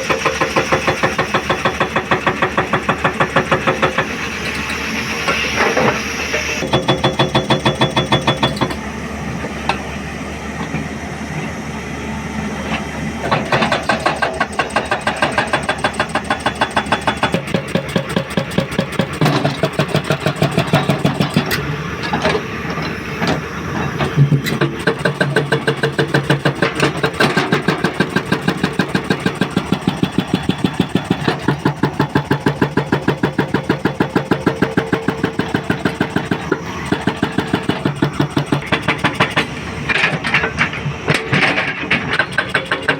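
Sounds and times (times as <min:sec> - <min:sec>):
hydraulic rock breaker hammering: 0:00.0 - 0:09.9, 0:12.7 - 0:42.9
diesel engine running: 0:00.0 - 0:42.9.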